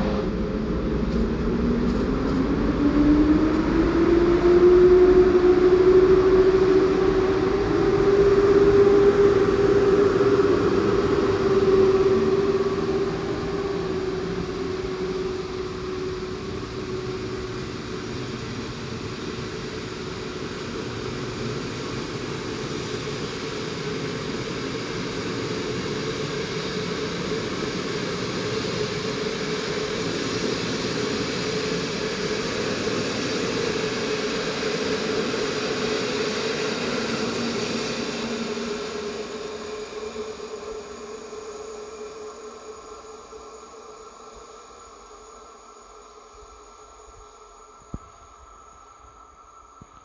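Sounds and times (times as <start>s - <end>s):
train wheels rumbling on rails: 0.0s - 45.8s.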